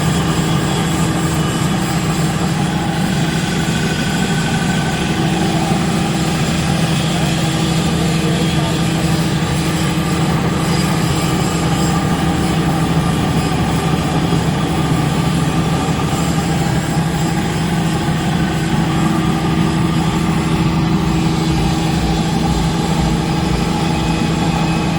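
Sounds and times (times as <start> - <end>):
refrigeration compressor humming: 0.0 - 24.9.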